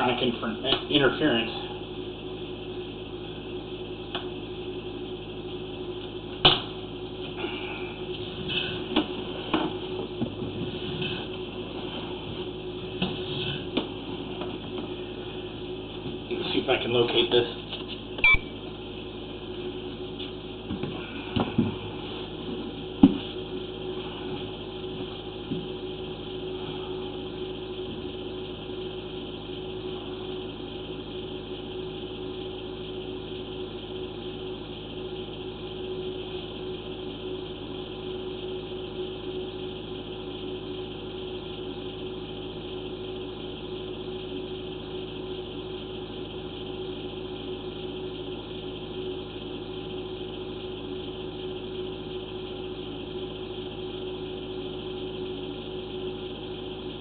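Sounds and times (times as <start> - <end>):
equipment humming: 0.0 - 57.0.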